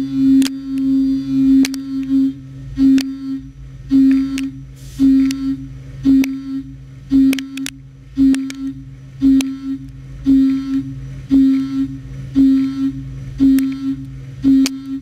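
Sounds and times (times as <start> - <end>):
machine steady low hum: 0.0 - 15.0.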